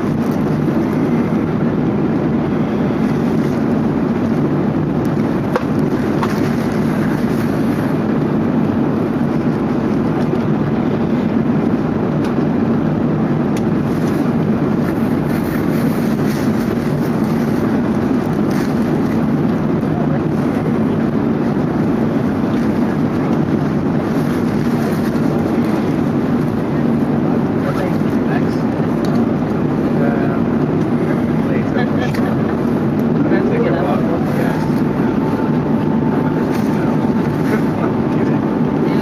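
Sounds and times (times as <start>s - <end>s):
engine and airflow drone: 0.0s - 39.0s.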